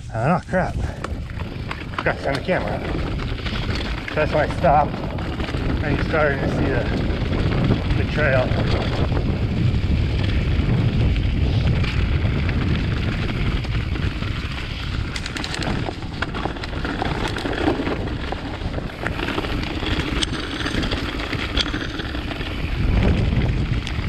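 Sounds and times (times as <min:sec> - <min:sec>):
bike tyres on leaves: 0:00.0 - 0:24.0
wind buffeting microphone: 0:00.0 - 0:24.0
sharp clicks and rattles: 0:00.6 - 0:24.0.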